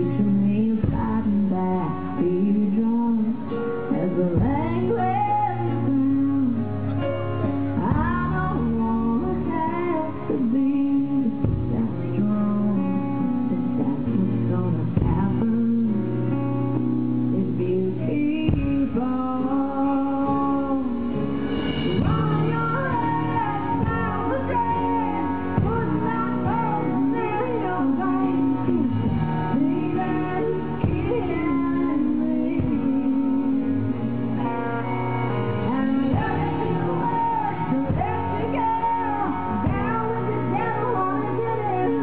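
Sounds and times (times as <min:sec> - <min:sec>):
band with keyboard and guitar: 0:00.0 - 0:42.0
woman singing country song: 0:00.0 - 0:42.0.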